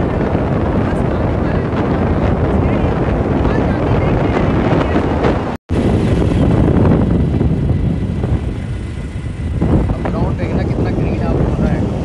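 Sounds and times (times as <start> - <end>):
motorbike road noise: 0.0 - 12.0
wind rushing on microphone: 0.0 - 12.0.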